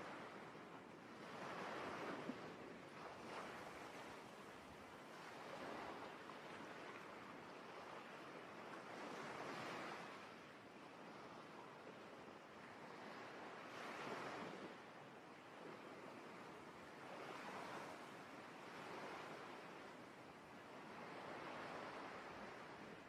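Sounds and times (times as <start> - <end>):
ocean waves on shore: 0.0 - 23.0.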